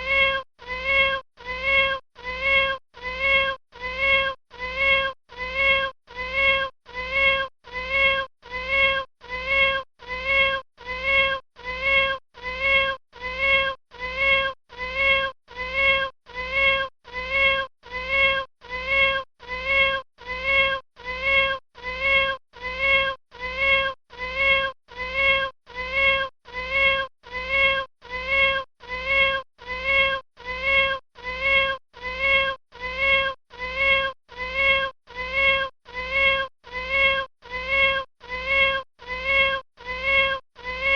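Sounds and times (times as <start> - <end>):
kitten meowing: 0.0 - 40.9.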